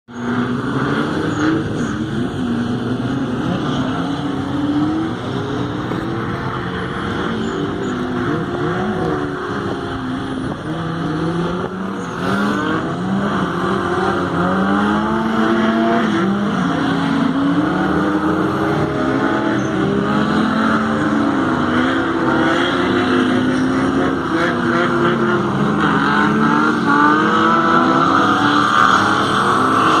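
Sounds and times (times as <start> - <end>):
car engines revving hard: 0.1 - 30.0.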